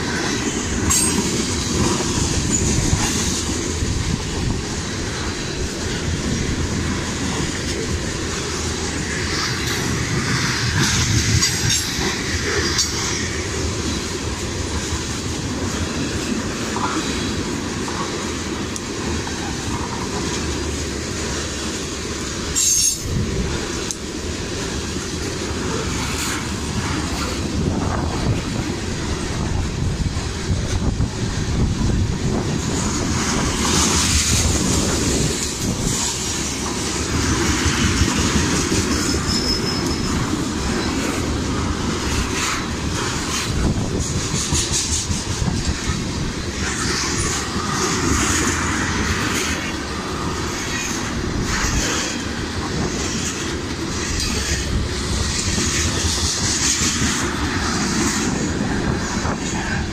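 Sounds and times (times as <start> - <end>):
freight train rolling past: 0.0 - 59.9
wheels clacking over rail joints: 0.0 - 59.9.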